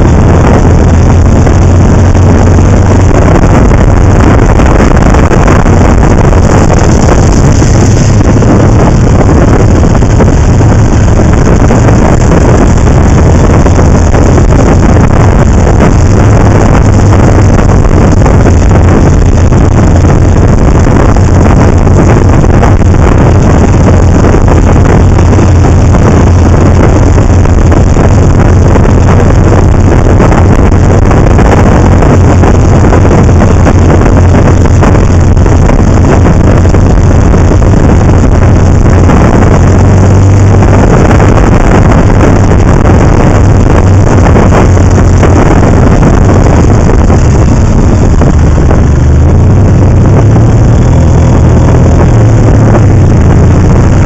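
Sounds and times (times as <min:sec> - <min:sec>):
motorcycle engine drone: 0:00.0 - 0:54.0
wind noise on microphone: 0:00.0 - 0:54.0.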